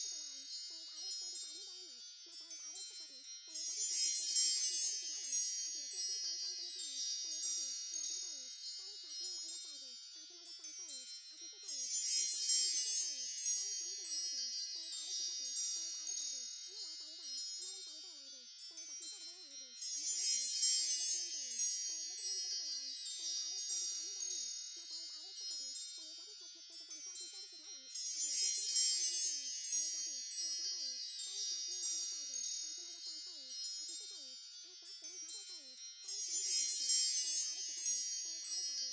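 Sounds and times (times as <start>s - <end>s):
wind chimes tinkling: 0.0s - 38.9s.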